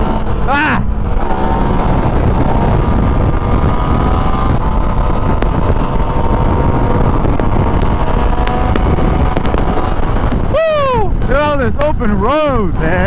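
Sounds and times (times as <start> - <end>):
motorcycle engine cruising: 0.0 - 13.0
wind rushing on microphone: 0.0 - 13.0.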